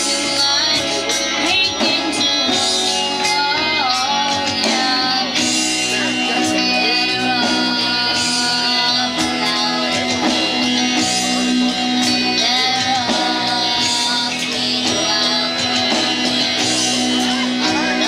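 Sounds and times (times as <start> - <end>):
acoustic guitar: 0.0 - 18.0
bass guitar: 0.0 - 18.0
drums: 0.0 - 18.0
electric lead guitar: 0.0 - 18.0
woman singing: 0.0 - 18.0.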